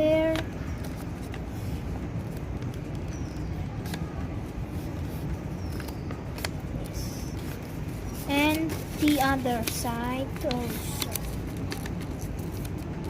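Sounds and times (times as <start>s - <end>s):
paper being folded: 0.0s - 13.0s.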